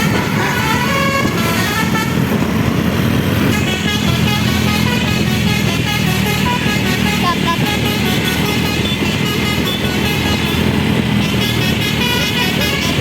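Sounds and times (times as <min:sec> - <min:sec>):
bus engine running: 0:00.0 - 0:13.0
multi-tone bus horn: 0:00.0 - 0:13.0.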